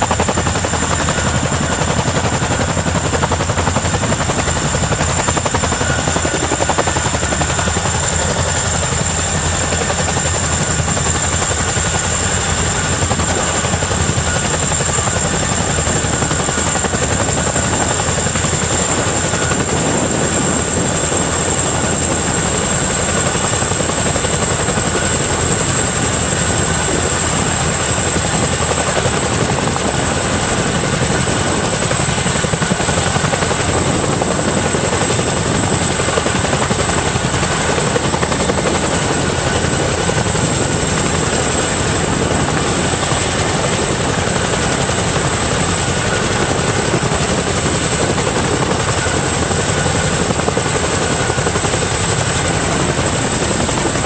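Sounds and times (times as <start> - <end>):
helicopter rotors thudding: 0.0 - 54.0
high turbine whine: 0.0 - 54.0.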